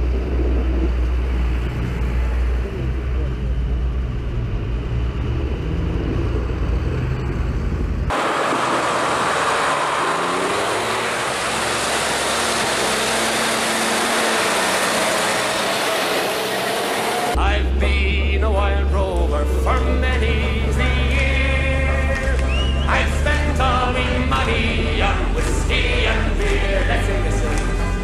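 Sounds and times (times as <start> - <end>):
tractor diesel engines passing: 0.0 - 28.0
tyre noise on road: 0.0 - 28.0.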